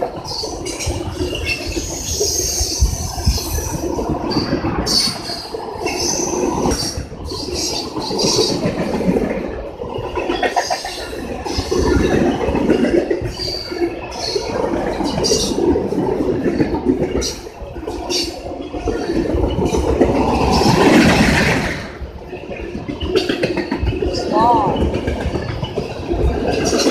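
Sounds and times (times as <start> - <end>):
freight train wheels clattering: 0.0 - 26.9.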